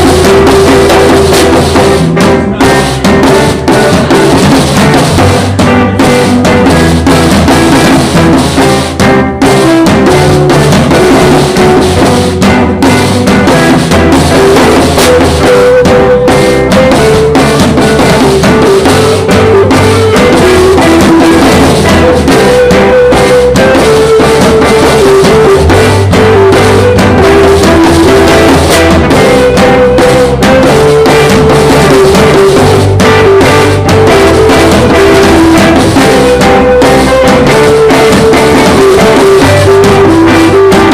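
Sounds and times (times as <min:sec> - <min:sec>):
bass: 0:00.0 - 0:40.9
drum kit: 0:00.0 - 0:40.9
melodic lead line: 0:00.0 - 0:40.9.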